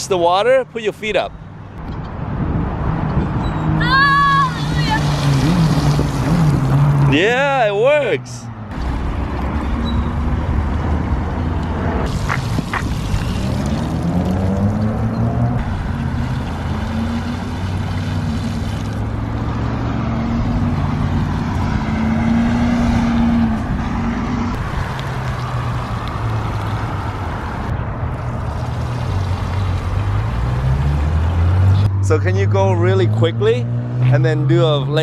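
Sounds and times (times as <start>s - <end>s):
vehicle engine humming: 1.4s - 35.0s.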